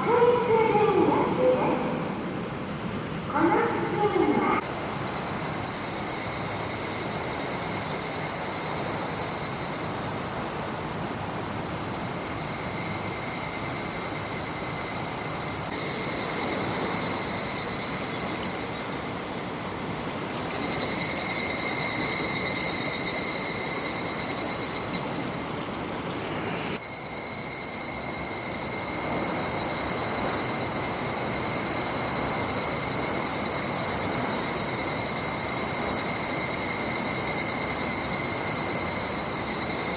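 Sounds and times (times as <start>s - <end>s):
cicadas trilling: 0.0s - 39.9s.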